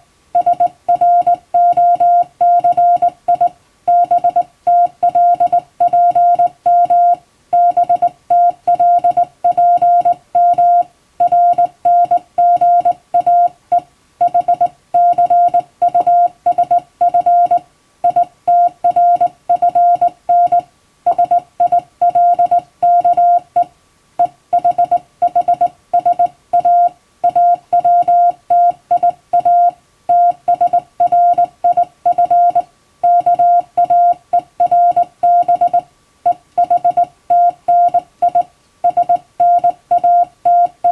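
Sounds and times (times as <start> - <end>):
morse code sidetone: 0.4 - 40.9.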